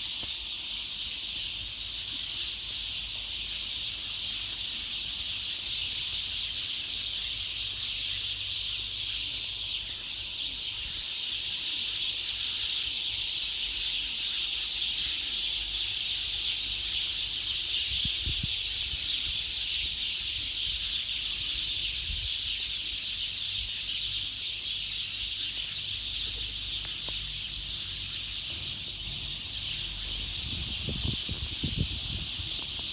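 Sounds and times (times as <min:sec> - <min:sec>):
flock of sparrows chirping: 0:00.0 - 0:32.9.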